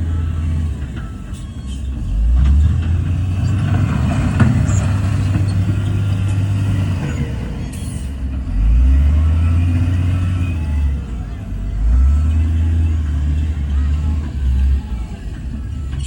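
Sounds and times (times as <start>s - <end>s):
heavy diesel engine under load: 0.0s - 16.0s.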